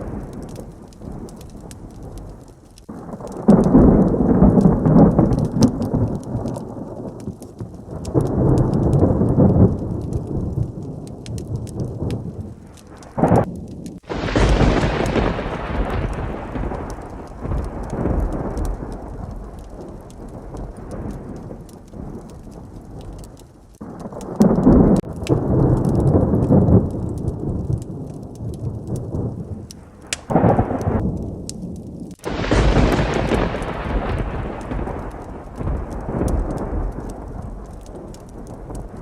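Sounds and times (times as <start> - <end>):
heavy rain pattering: 0.0 - 39.0
loud thunderclap: 0.0 - 39.0
thunder rolling: 0.0 - 39.0.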